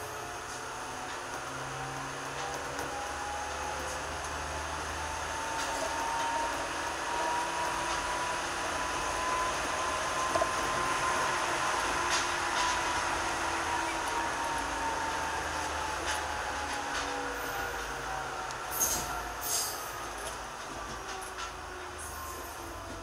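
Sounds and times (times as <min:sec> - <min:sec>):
electric train motor whine: 0:00.0 - 0:23.0
wheels on rail: 0:00.0 - 0:23.0.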